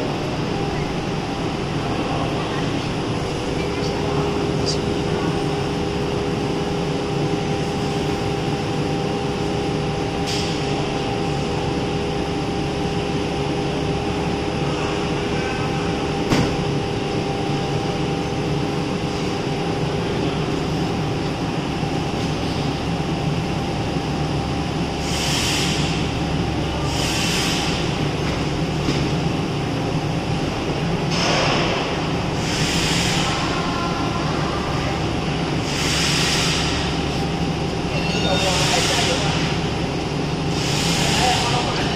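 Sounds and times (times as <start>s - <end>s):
machinery drone and hum: 0.0s - 41.9s.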